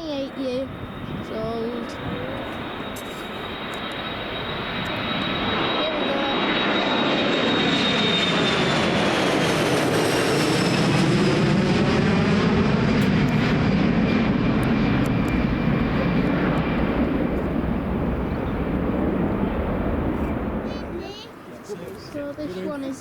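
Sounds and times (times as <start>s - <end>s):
jet engine roar with fan whine: 0.0s - 23.0s.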